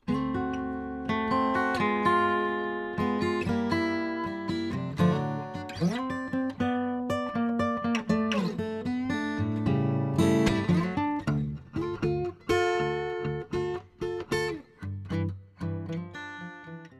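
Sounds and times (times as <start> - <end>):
acoustic guitar music: 0.0 - 16.9.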